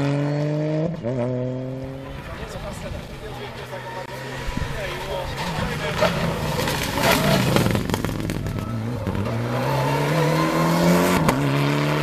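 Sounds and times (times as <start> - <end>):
rally car accelerating hard: 0.0 - 3.2, 4.1 - 12.0.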